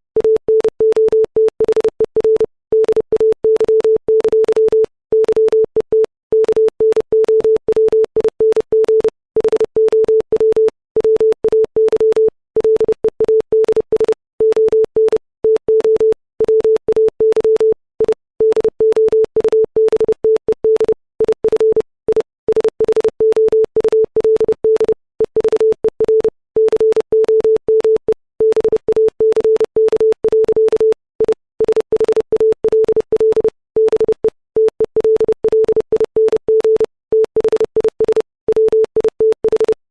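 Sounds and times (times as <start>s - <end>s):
morse code tone: 6.3s - 39.8s.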